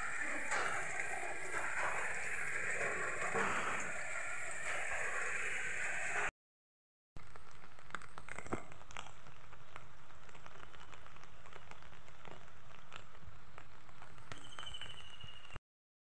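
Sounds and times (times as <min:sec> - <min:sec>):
steady rain: 0:00.0 - 0:06.3, 0:07.2 - 0:15.6.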